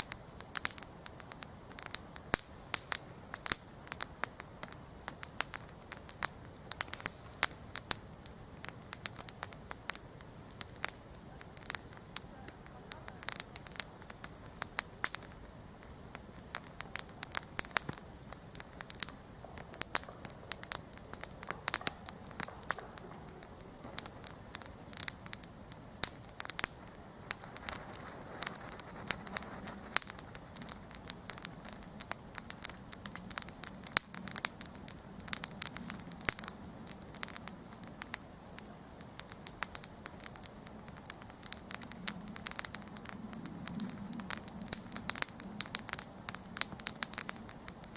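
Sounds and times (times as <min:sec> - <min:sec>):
campfire crackling and popping: 0:00.0 - 0:47.9
low rumble of flame: 0:00.0 - 0:47.9.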